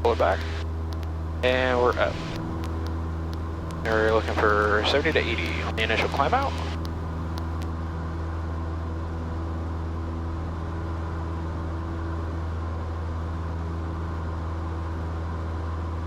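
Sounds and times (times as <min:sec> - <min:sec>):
airplane engine droning: 0:00.0 - 0:16.0.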